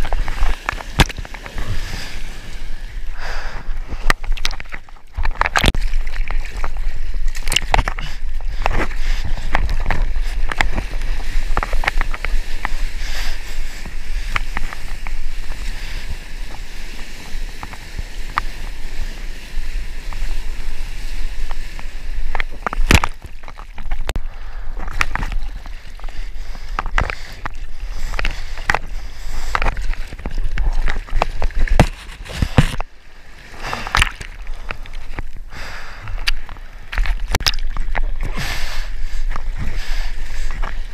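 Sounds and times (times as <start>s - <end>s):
water splashing around surfboard: 0.0s - 40.9s.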